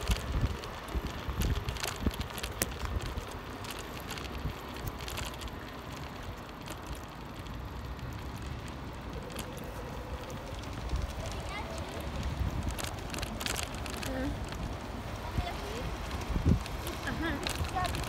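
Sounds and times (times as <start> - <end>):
sharp rattling clicks: 0.0 - 14.8
bicycle tyres rumbling on cobblestones: 0.0 - 18.0.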